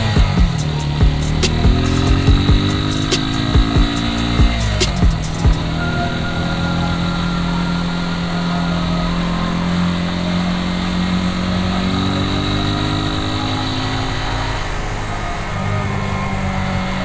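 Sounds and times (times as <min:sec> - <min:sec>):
vehicle engine running: 0:00.0 - 0:15.0
road noise: 0:00.0 - 0:17.0.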